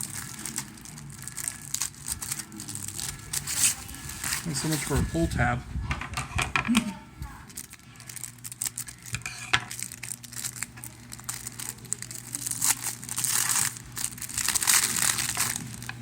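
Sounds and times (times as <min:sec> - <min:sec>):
plastic packaging crinkling and tearing: 0:00.0 - 0:05.4, 0:07.4 - 0:16.0.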